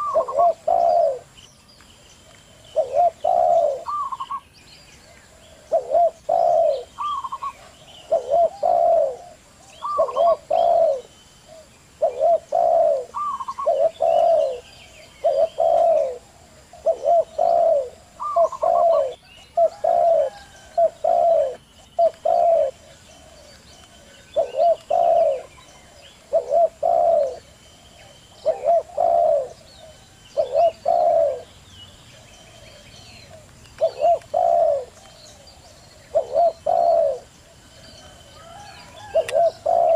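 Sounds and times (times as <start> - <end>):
doves cooing: 0.0 - 1.3, 2.6 - 4.5, 5.3 - 39.9
small birds chirping: 0.0 - 39.9.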